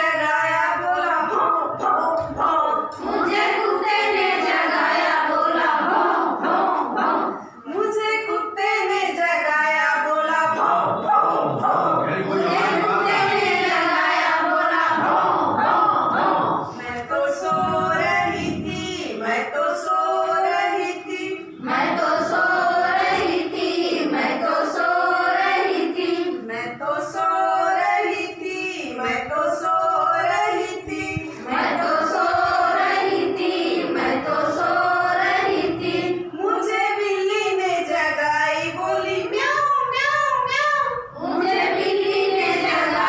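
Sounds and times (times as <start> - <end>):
women singing unaccompanied: 0.0 - 43.0.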